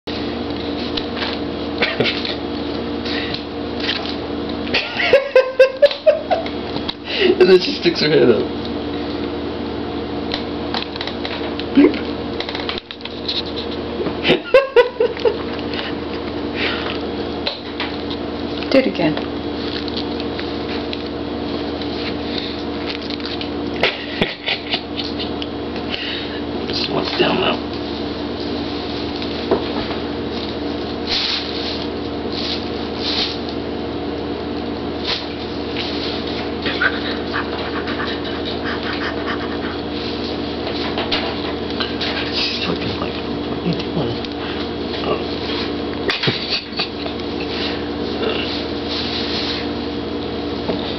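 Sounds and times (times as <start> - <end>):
steady background hum: 0.0 - 50.9.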